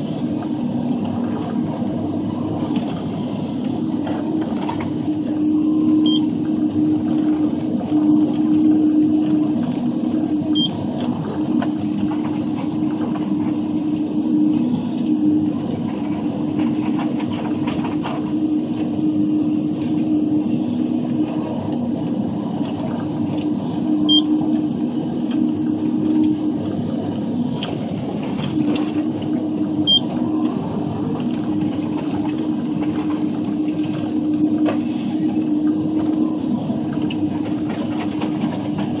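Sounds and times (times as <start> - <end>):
diesel engine and hydraulics humming: 0.0 - 39.0.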